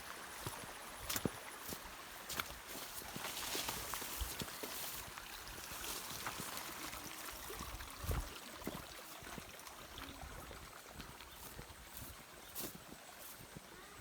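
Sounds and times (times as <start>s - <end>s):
stream running: 0.0s - 14.0s.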